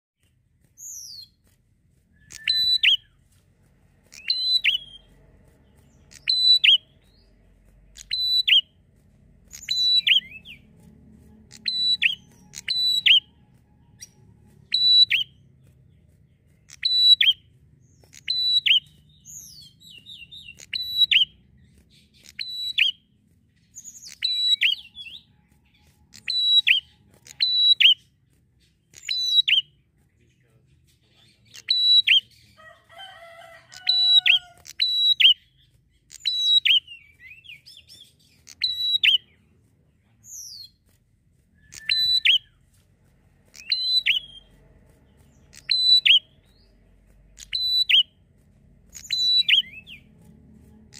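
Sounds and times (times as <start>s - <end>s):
bird chirping: 0.2s - 50.9s.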